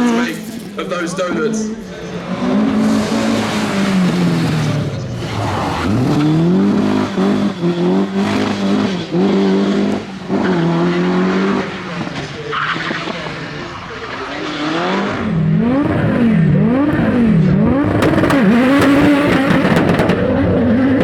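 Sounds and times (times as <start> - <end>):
car engine at high revs: 0.0 - 21.0.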